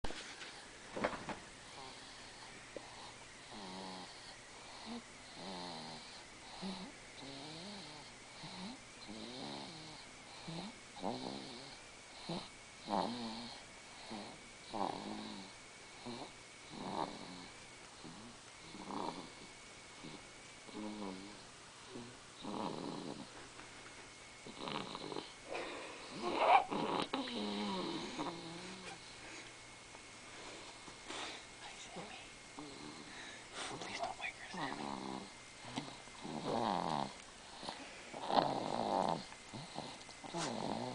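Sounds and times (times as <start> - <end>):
baby snoring: 1.7 - 23.3, 24.4 - 29.1, 32.6 - 40.9.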